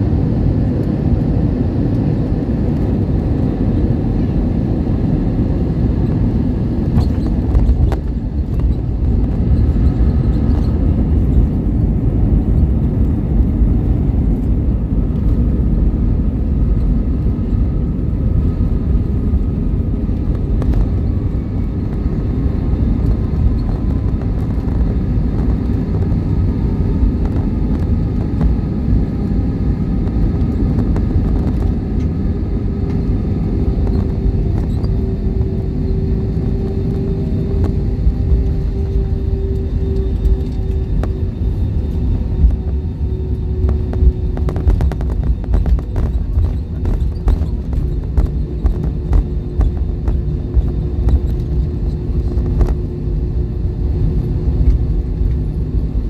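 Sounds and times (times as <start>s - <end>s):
airliner engine rumble in cabin: 0.0s - 56.0s
faint engine whine: 0.0s - 56.0s.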